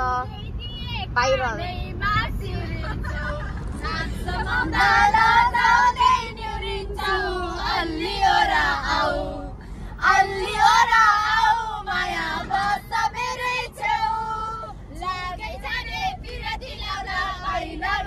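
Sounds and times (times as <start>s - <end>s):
van rumbling: 0.0s - 18.0s
women singing together: 1.7s - 18.0s.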